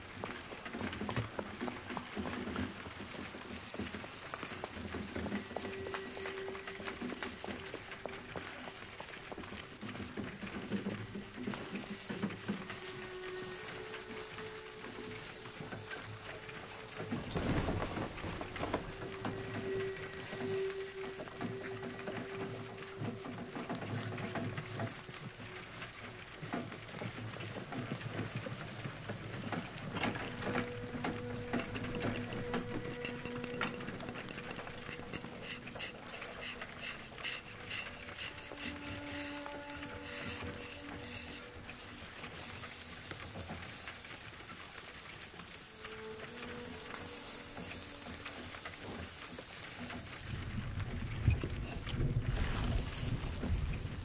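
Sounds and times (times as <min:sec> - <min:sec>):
light rustle: 0:00.0 - 0:54.0
soft crackling clicks and taps: 0:00.0 - 0:54.0.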